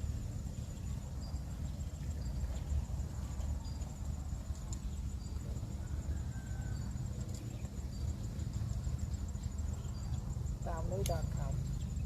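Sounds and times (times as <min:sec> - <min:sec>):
constant low rumble: 0:00.0 - 0:12.0
insects trilling: 0:00.0 - 0:12.0.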